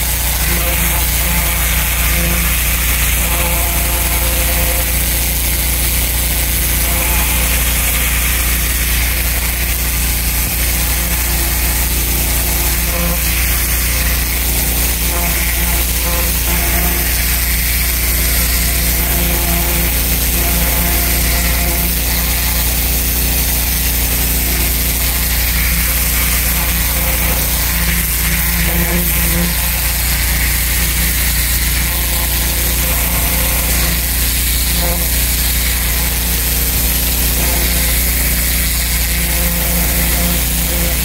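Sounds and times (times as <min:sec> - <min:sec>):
pressure washer motor hum: 0:00.0 - 0:41.0
water jet hissing onto brick: 0:00.0 - 0:41.0.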